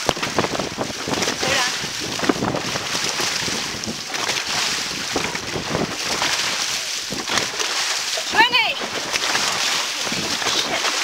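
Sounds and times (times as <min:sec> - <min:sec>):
wind buffeting microphone: 0:00.0 - 0:07.7, 0:08.3 - 0:11.0
paddles splashing through water: 0:00.0 - 0:11.0
rushing water: 0:00.0 - 0:11.0.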